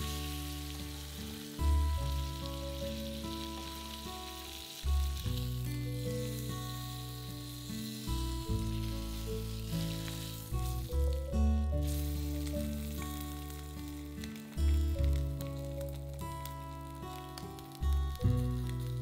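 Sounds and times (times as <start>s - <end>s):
background music: 0.0s - 19.0s
meat sizzling in a frying pan: 0.0s - 19.0s.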